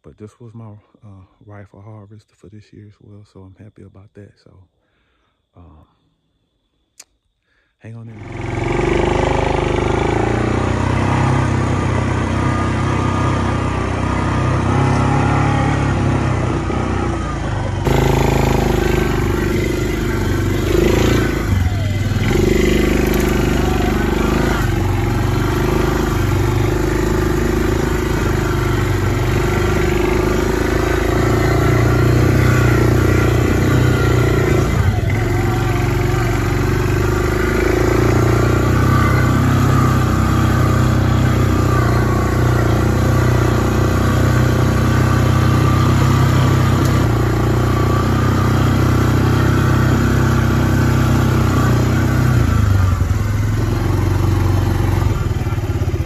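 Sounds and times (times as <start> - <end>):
quad bike engine running: 8.1 - 56.0.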